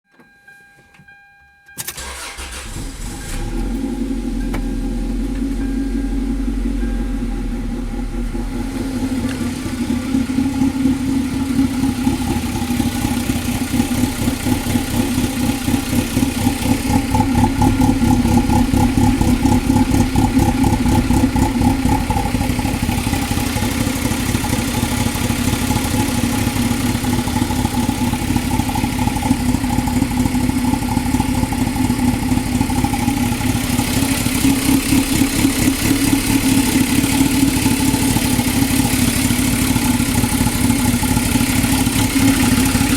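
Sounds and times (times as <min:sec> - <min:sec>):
car engine rough idle: 0:02.0 - 0:42.9.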